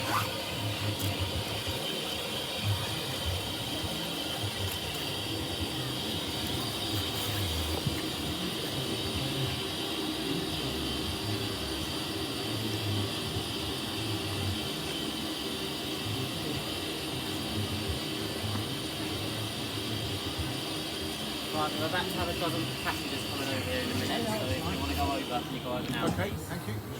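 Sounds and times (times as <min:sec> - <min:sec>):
hiss: 0:00.0 - 0:25.4.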